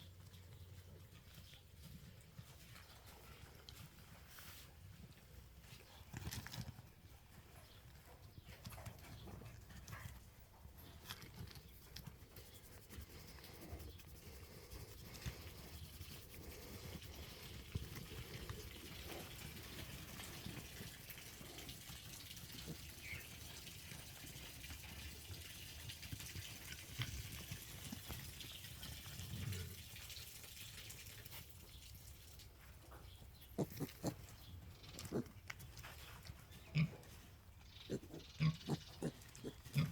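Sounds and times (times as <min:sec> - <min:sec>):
pigs moving about: 0:00.0 - 0:39.9.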